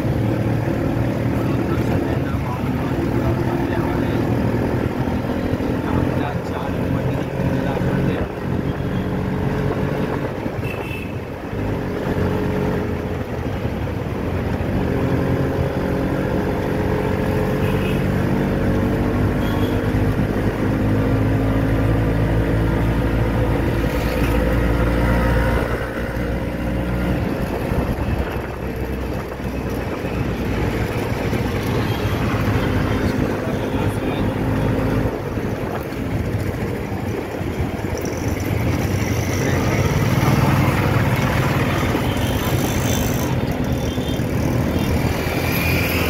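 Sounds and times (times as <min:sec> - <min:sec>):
road and traffic noise: 0:00.0 - 0:46.0.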